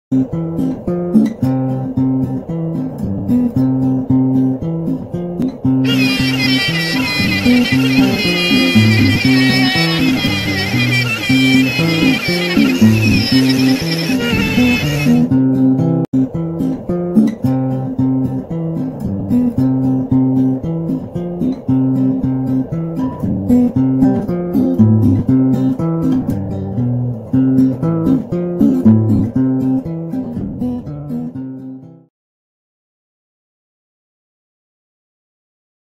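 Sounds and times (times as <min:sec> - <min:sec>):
plucked guitar tune: 0:00.1 - 0:32.1.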